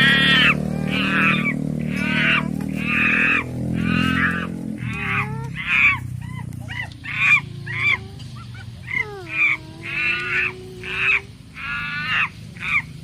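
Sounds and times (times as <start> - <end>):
geese honking: 0.0 - 8.1, 8.9 - 13.0
low steady drone: 0.0 - 12.7.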